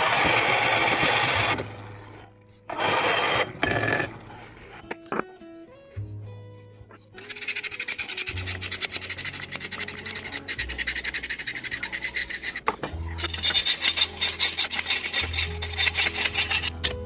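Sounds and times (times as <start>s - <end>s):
hand file scraping rusty steel: 0.0s - 5.2s, 7.2s - 17.0s.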